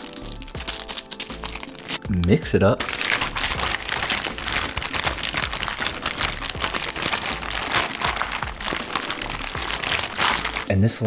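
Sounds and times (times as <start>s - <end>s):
plastic bag crinkling: 0.0s - 2.1s, 2.8s - 10.7s.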